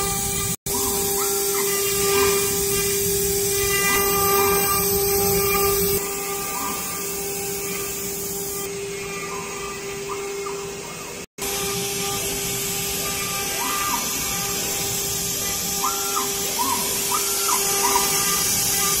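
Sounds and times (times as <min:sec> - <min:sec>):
gantry drive whirs: 0:00.0 - 0:19.0
router spindle whine: 0:00.0 - 0:19.0.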